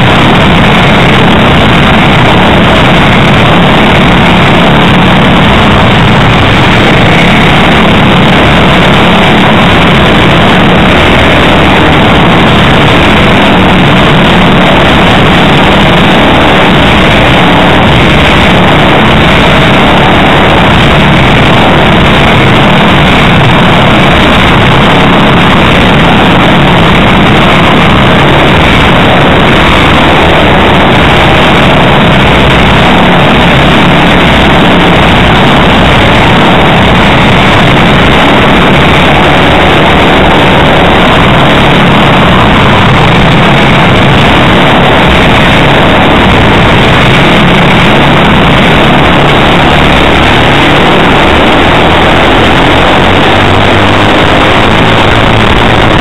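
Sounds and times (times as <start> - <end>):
racing kart engines: 0.0 - 56.0.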